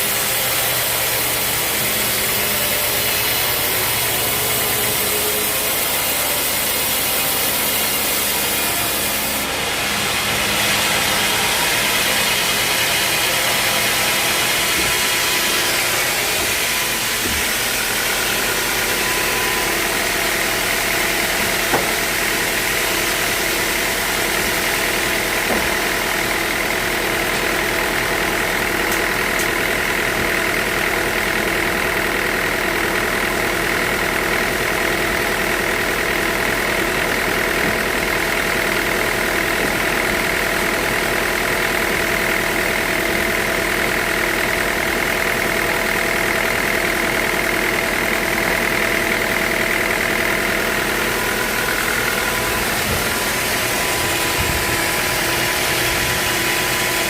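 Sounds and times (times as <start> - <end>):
high mechanical whine: 0.0 - 33.7, 34.4 - 57.0
sawmill machinery drone: 0.0 - 57.0.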